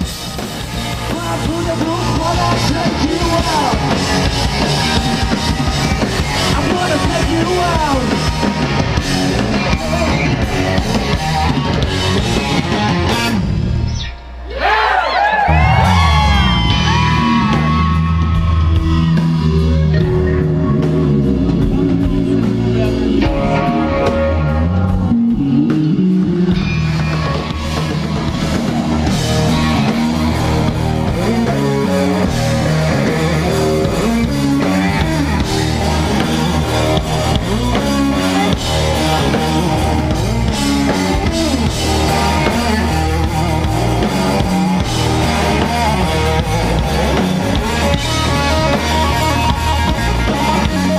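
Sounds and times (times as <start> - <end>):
drum kit: 0.0 - 14.8, 15.4 - 50.9
bass guitar: 0.0 - 50.9
electric guitar: 0.0 - 50.9.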